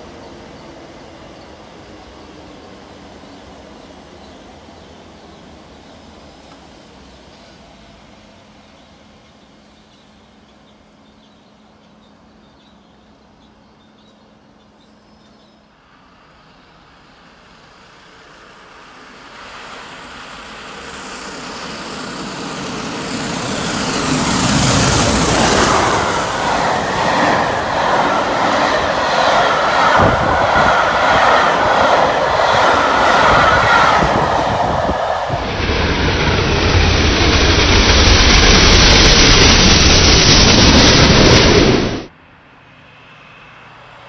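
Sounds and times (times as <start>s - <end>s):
steam locomotive passing: 0.0s - 42.1s
wheel and rail noise: 0.0s - 42.1s.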